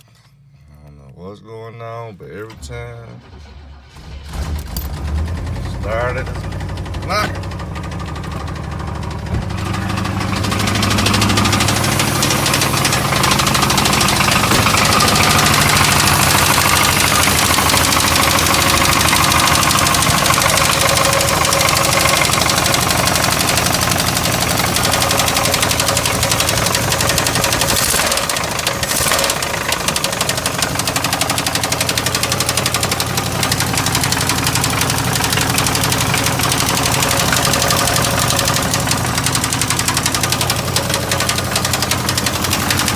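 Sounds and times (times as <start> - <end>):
car engine knocking: 3.2 - 42.9.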